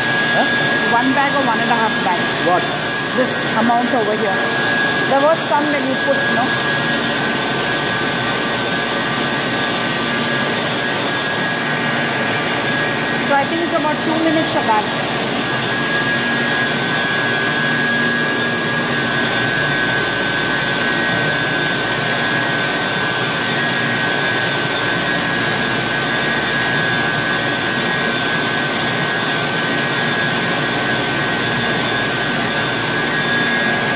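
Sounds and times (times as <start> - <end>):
mixer running with high whine: 0.0 - 33.9.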